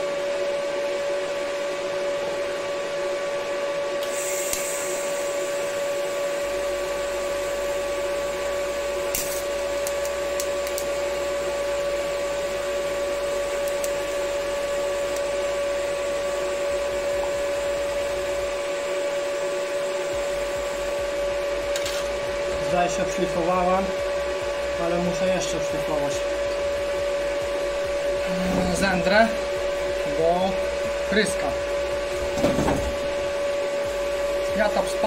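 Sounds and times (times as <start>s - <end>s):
steady high whine: 0.0s - 35.0s
welding arc burning: 4.0s - 35.0s.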